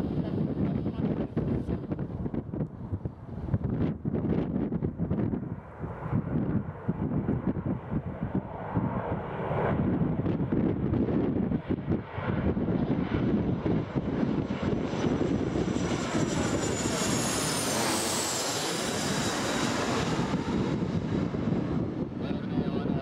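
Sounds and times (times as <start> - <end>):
jet engines roaring overhead: 0.0 - 23.0
wind buffeting microphone: 0.0 - 23.0.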